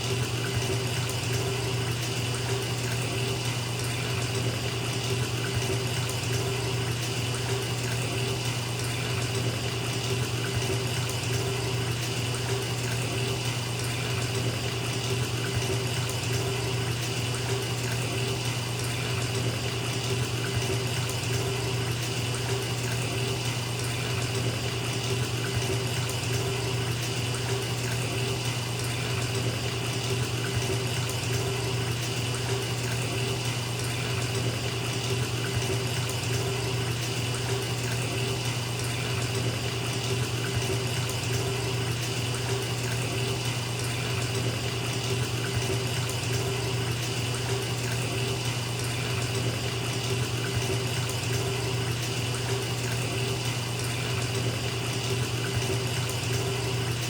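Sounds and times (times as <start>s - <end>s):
water pouring into bathtub: 0.0s - 57.0s.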